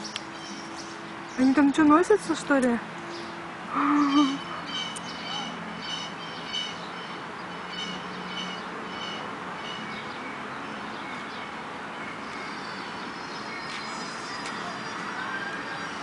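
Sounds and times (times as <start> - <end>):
bird chirping: 0.0 - 2.1, 3.0 - 16.0
outdoor background noise: 0.0 - 16.0.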